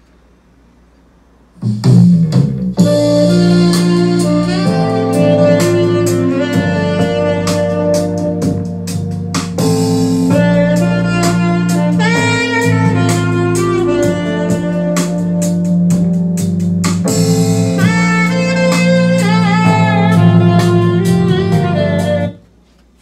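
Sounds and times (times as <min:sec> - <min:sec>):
jazz music over small speakers: 0:01.2 - 0:23.0
bass and drum hits: 0:01.6 - 0:22.3
saxophone lead: 0:02.8 - 0:22.4.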